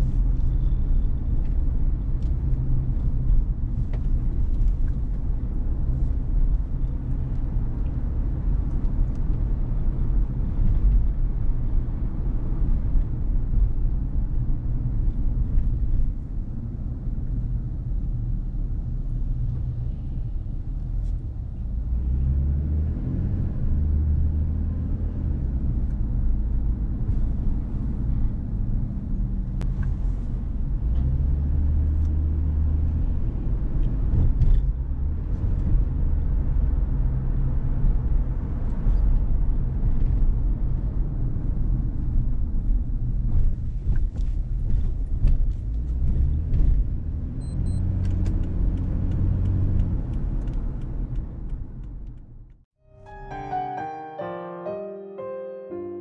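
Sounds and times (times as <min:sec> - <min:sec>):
car road and engine rumble: 0:00.0 - 0:52.8.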